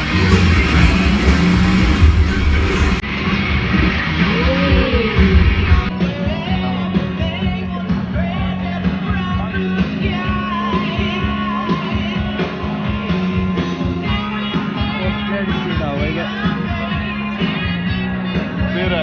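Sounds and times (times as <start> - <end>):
rock music with singing: 0.0 - 19.0.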